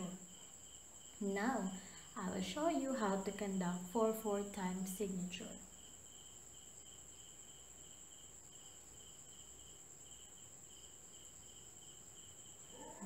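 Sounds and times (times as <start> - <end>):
continuous high-pitched whine: 0.0 - 13.0
insects chirping: 0.0 - 13.0.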